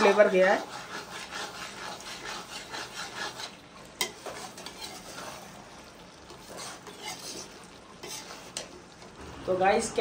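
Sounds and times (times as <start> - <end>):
spoon stirring and scraping curry: 0.0 - 9.2
faint sizzle: 0.0 - 10.0.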